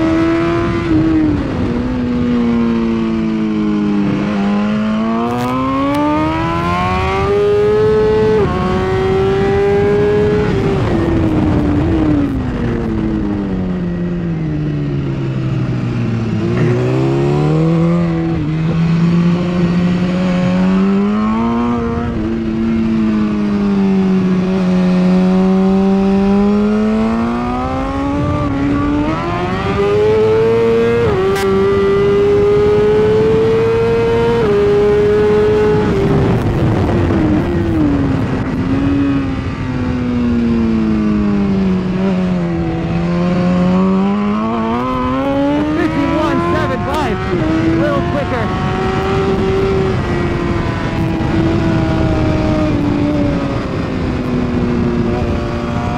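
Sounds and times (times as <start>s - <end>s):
motorcycle engine revving: 0.0s - 55.9s
wind rush: 0.0s - 55.9s.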